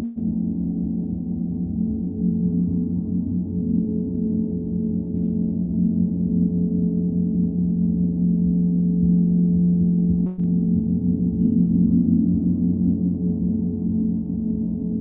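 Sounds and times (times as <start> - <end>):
singing bowl hum: 0.0 - 15.0.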